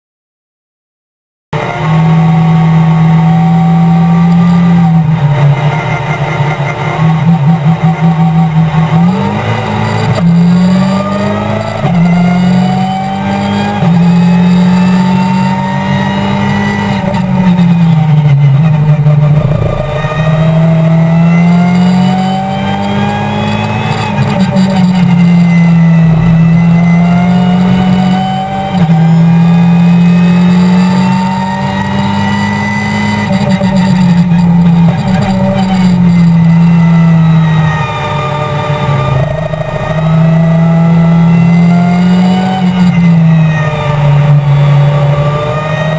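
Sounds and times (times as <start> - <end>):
race car engine revving: 1.6 - 45.9.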